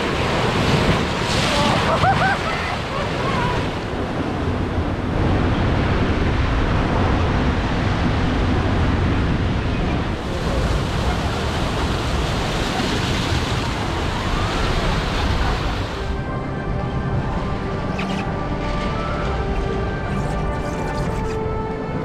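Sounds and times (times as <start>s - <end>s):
rushing churning water: 0.0s - 22.0s
wind noise on microphone: 3.1s - 22.0s.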